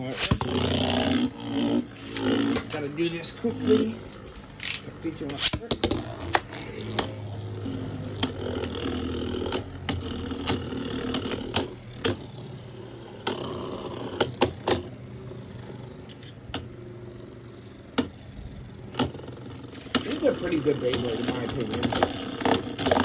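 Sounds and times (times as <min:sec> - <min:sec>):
spinning tops whirring: 0:00.0 - 0:23.0.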